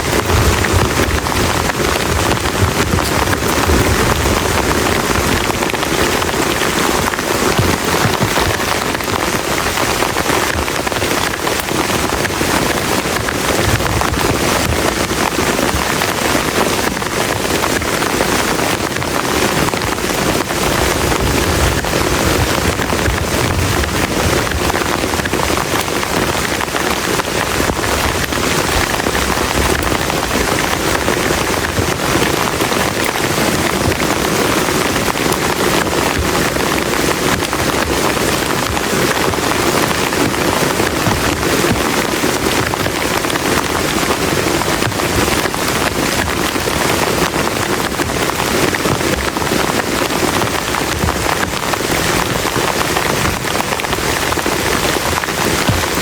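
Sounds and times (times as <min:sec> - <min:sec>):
heavy rain on a plastic tarp: 0:00.0 - 0:56.0.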